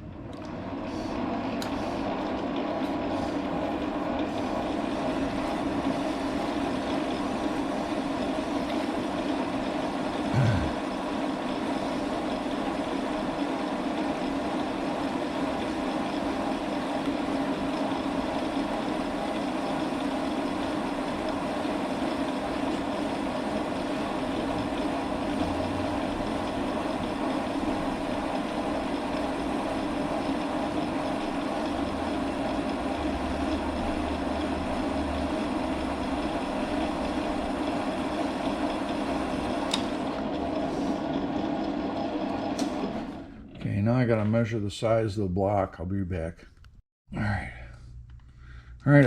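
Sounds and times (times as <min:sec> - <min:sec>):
metal lathe humming: 0:00.0 - 0:43.7.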